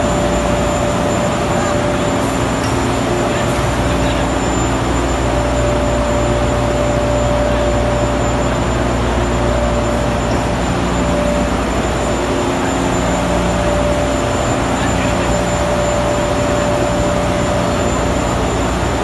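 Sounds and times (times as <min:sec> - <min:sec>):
conveyor machinery whir: 0:00.0 - 0:19.0.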